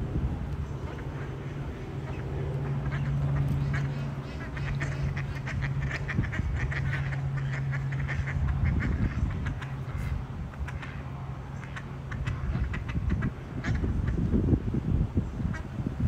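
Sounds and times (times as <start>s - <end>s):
low hum: 0.0s - 15.5s
ducks quacking: 0.8s - 14.3s.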